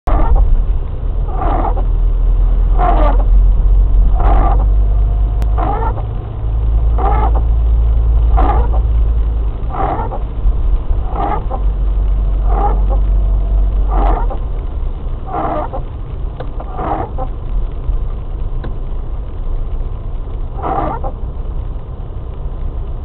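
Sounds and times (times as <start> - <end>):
windshield wipers squeaking: 0.0 - 21.3
car engine and tyres rumbling: 0.0 - 23.0.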